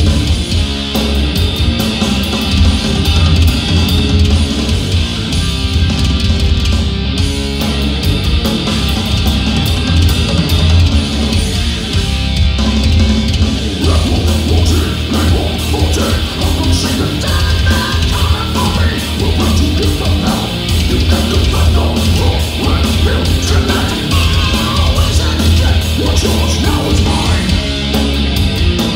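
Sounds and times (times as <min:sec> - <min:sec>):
heavy metal music: 0:00.0 - 0:28.9.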